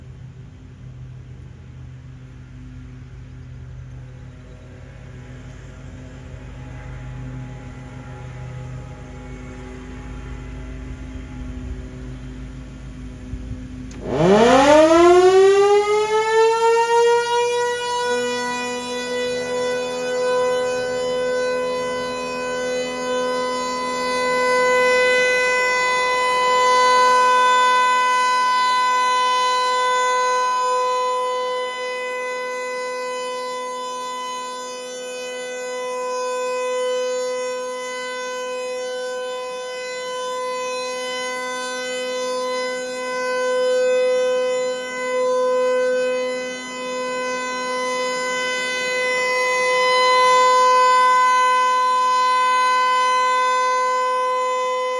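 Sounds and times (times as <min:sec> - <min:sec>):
warning siren steady tone: 0:00.0 - 0:54.9.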